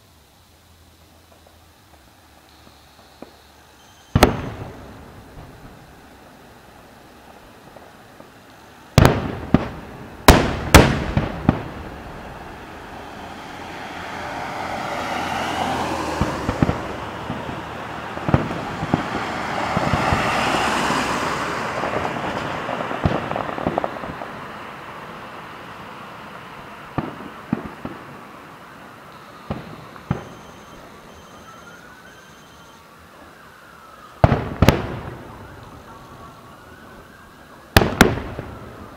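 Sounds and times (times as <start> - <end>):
fireworks booming: 1.0 - 32.1, 34.1 - 38.9
smaller fireworks bangs: 1.0 - 32.1, 33.1 - 38.9
car passing: 4.2 - 38.9.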